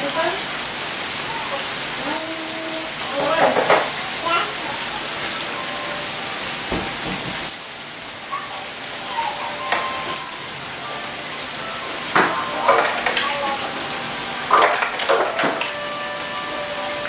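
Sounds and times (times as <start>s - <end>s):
raindrops tapping hard surfaces: 0.0s - 17.0s
steady rain: 0.0s - 17.0s.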